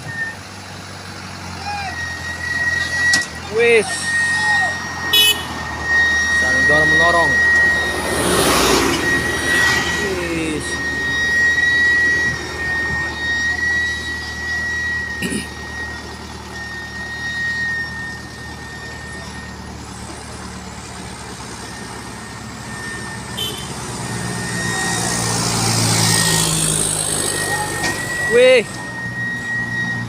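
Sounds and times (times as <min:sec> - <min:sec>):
truck diesel engines under load: 0:00.0 - 0:30.0
steady high whine: 0:02.0 - 0:30.0.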